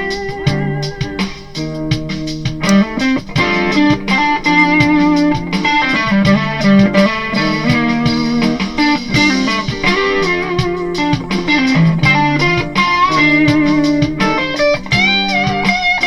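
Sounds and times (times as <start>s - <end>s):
electric guitar lead lines: 0.0s - 16.0s.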